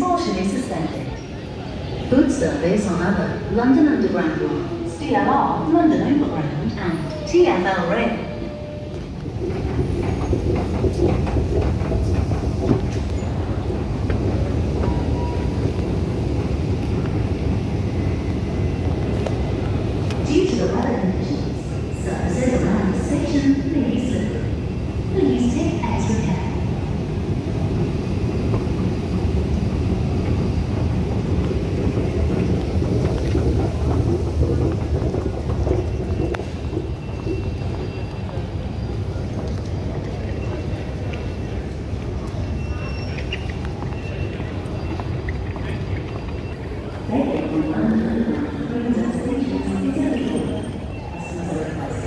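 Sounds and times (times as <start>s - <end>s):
underground train rumbling: 0.0s - 52.0s.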